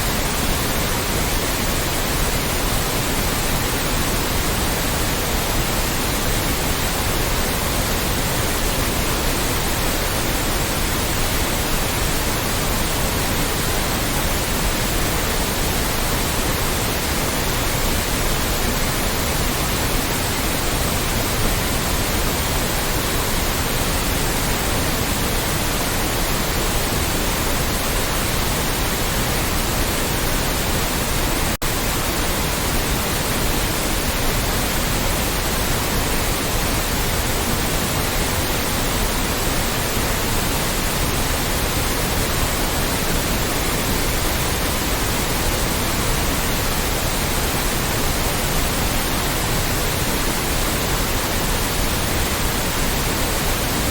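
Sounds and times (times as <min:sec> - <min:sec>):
loud white noise hiss: 0:00.0 - 0:53.9.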